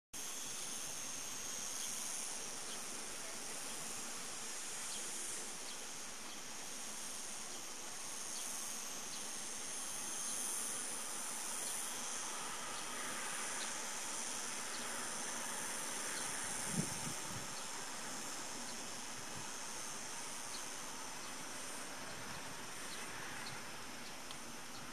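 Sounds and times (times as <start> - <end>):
cicadas buzzing: 0.2 - 24.9.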